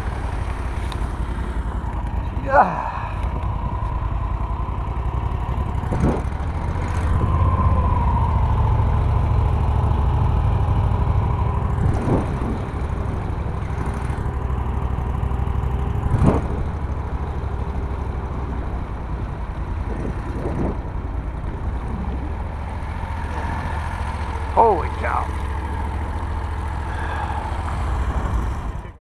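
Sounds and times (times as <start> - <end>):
boat motor rumbling: 0.0 - 29.0.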